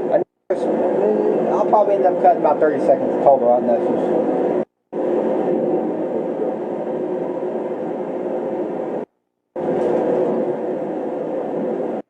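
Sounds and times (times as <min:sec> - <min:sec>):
heater whirring hum: 0:00.0 - 0:12.0.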